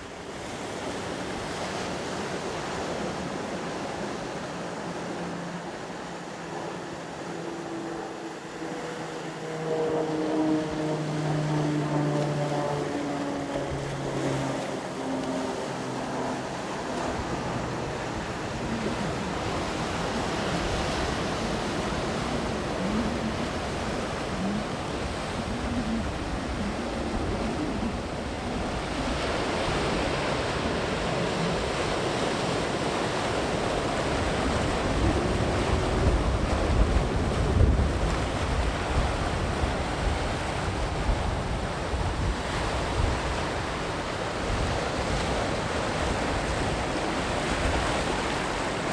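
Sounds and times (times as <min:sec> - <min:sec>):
sea surf breaking on shore: 0:00.0 - 0:48.9.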